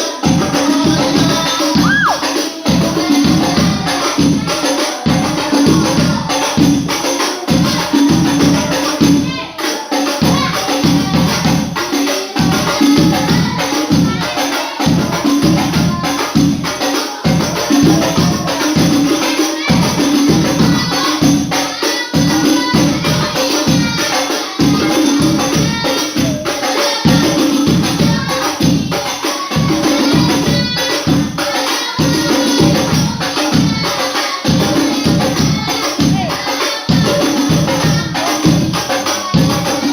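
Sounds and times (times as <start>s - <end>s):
frame drums and jingling percussion: 0.0s - 39.9s
voices singing: 0.0s - 39.9s.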